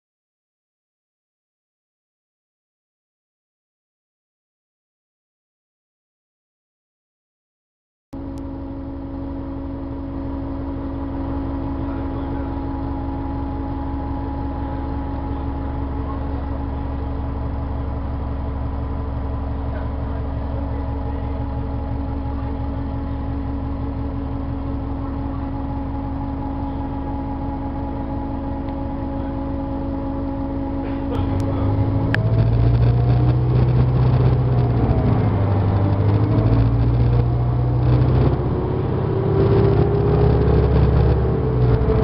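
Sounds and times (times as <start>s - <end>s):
bus diesel engine rumbling: 8.2s - 42.0s
high-pitched engine whine: 8.2s - 42.0s.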